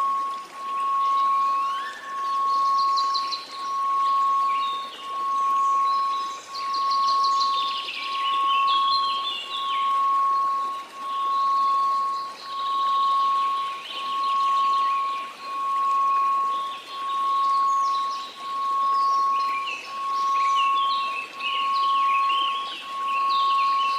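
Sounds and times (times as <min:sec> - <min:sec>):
faint white noise hiss: 0:00.0 - 0:23.9
steady pure tone: 0:00.0 - 0:23.9.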